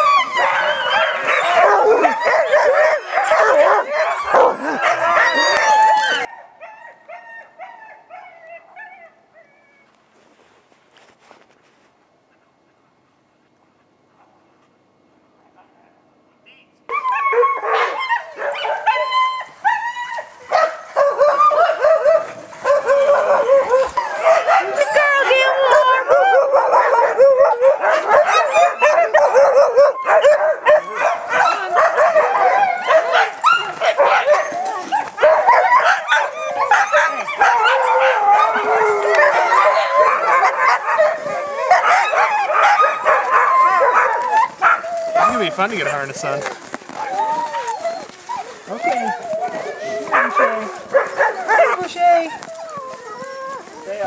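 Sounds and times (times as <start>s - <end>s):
huskies yipping and howling: 0.0s - 9.9s, 16.9s - 54.0s.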